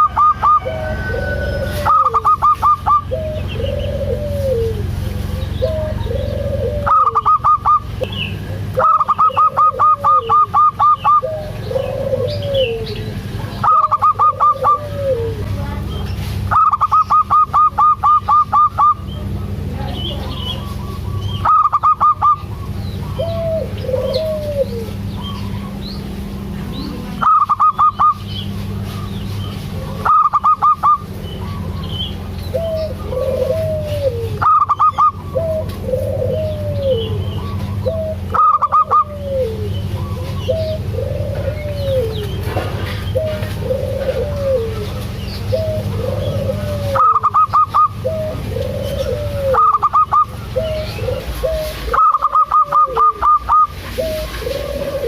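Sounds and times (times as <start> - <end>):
loud high bird call: 0.0 - 15.4, 20.0 - 26.1, 26.7 - 55.0
doves cooing: 0.0 - 55.0
steady low hum: 0.0 - 55.0.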